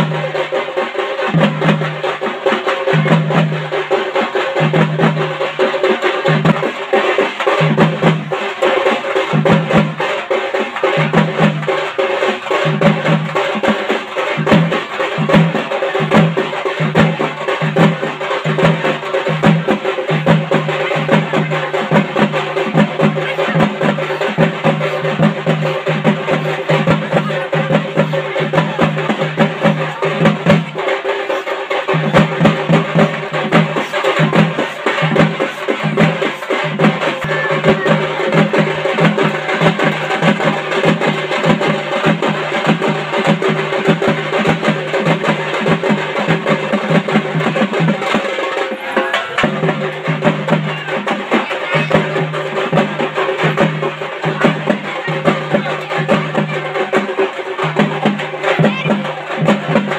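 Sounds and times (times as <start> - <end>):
fast festival drumming: 0.0 - 59.9.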